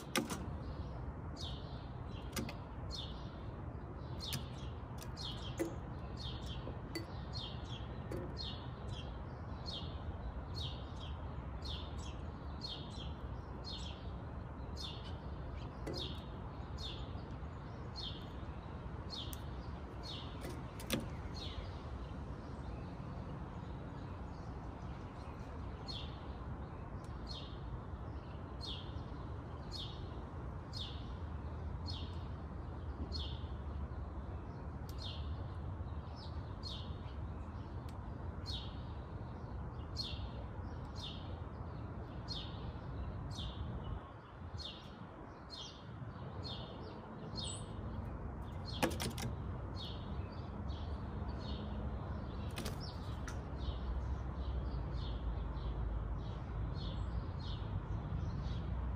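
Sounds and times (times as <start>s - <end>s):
songbird chirping: 0.0s - 58.9s.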